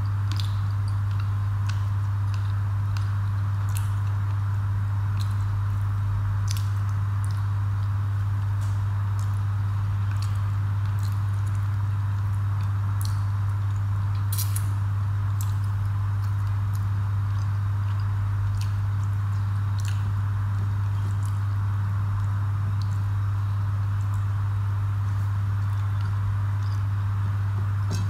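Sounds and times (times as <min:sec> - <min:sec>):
steady low hum: 0:00.0 - 0:28.0
chewing: 0:00.2 - 0:14.7, 0:15.3 - 0:21.6, 0:25.1 - 0:27.0
wet smacks of eating by hand: 0:00.3 - 0:14.7, 0:15.3 - 0:21.6, 0:22.2 - 0:24.4, 0:25.1 - 0:26.9.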